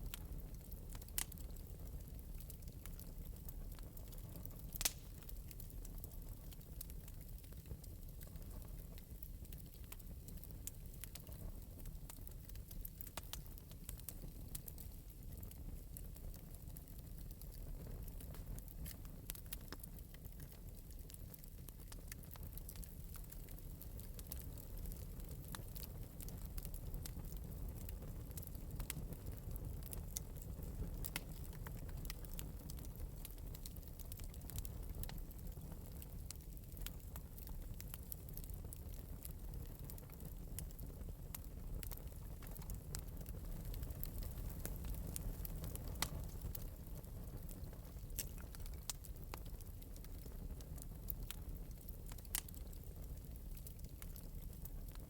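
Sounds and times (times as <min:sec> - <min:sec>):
low rumble of flames: 0:00.0 - 0:55.0
wood fire pops and snaps: 0:00.1 - 0:55.0.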